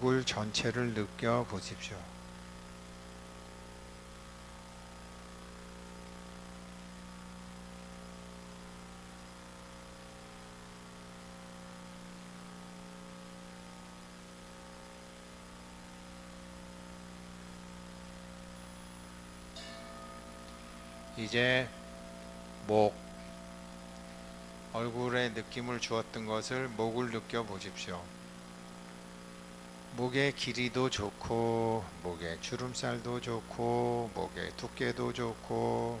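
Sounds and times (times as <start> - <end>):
electrical mains hum: 0.0 - 36.0
faint hiss: 0.0 - 36.0.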